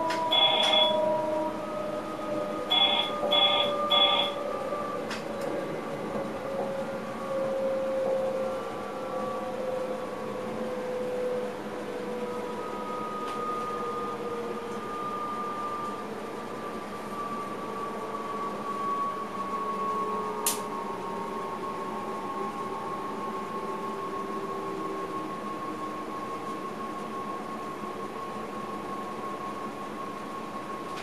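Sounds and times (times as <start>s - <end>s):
electric train hum and whine: 0.0s - 31.0s.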